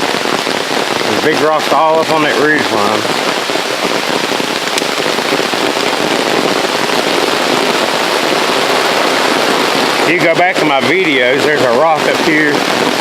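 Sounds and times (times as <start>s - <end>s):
rain on an umbrella: 0.0s - 13.0s.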